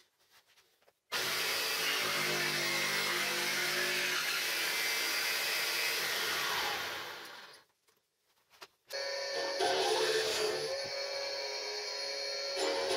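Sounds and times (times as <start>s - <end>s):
jigsaw motor running: 1.1s - 7.6s, 9.0s - 12.9s.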